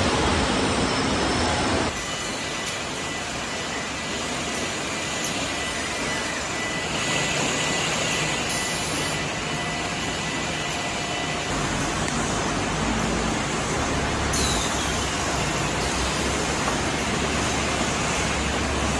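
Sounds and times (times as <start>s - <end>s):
conveyor machine noise: 0.0s - 18.9s
thin high whine: 0.0s - 18.9s.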